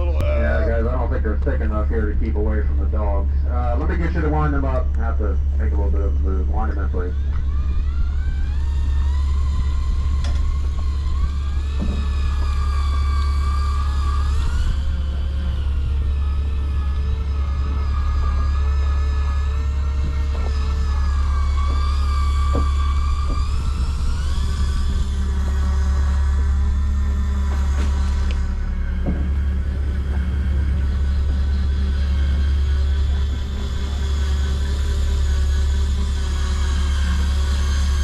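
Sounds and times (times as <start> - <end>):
boat engine drone: 0.0 - 38.0
electric fishing reel motor whine: 0.0 - 38.0.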